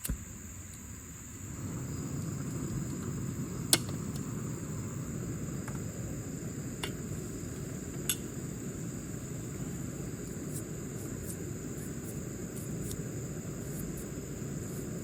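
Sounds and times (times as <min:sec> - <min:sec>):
insects chirring: 0:00.0 - 0:15.0
low rushing background: 0:01.4 - 0:15.0.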